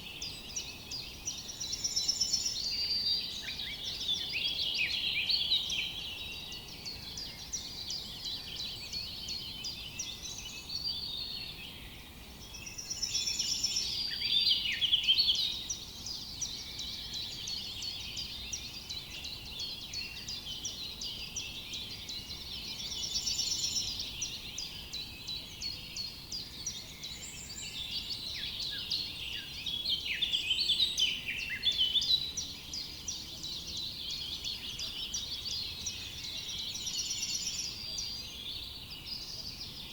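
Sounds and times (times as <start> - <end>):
forest birds chorus: 0.0 - 39.9.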